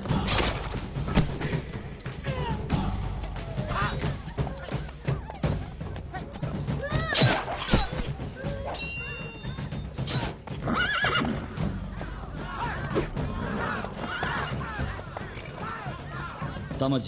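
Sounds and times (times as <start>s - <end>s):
horses neighing: 0.0s - 16.8s
film score music: 0.0s - 17.0s.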